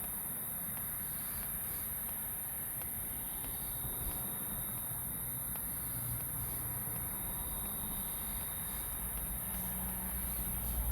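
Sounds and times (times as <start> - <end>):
high-pitched hiss: 0.0 - 10.9
thin steady tone: 0.0 - 10.9.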